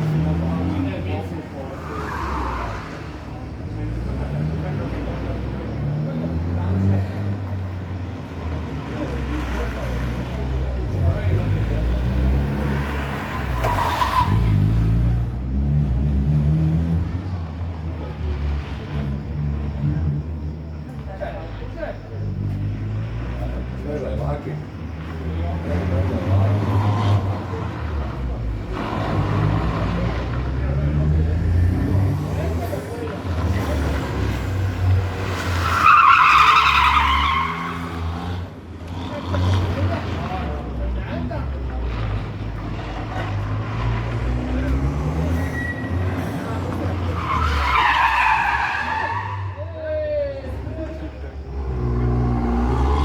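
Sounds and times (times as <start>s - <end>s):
tyres squealing: 0.0s - 5.6s, 8.5s - 15.1s, 18.2s - 53.0s
car engine revving: 0.0s - 49.7s, 50.3s - 53.0s.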